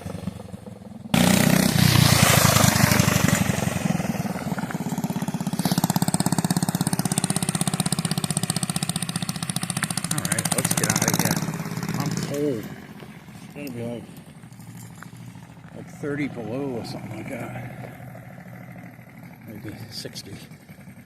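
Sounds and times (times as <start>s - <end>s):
small engine starting and idling: 0.0s - 21.0s.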